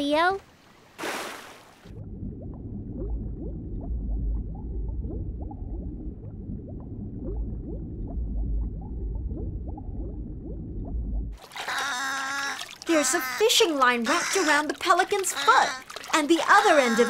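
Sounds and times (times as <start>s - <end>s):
underwater bubbling: 1.7s - 17.0s.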